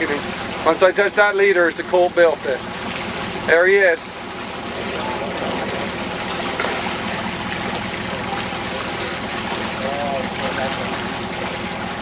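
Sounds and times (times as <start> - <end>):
low steady hum: 0.0 - 12.0
water rushing along boat: 0.0 - 12.0.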